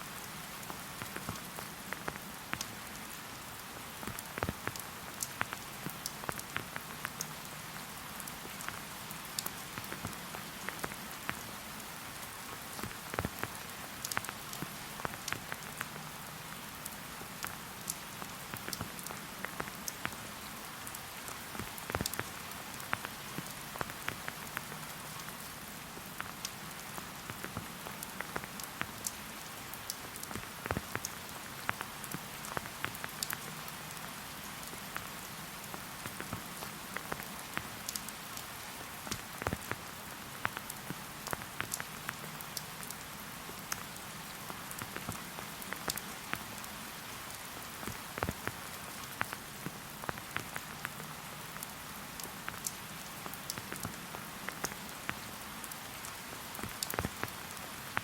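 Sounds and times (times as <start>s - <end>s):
rain hiss: 0.0s - 58.0s
raindrops ticking: 0.2s - 58.0s.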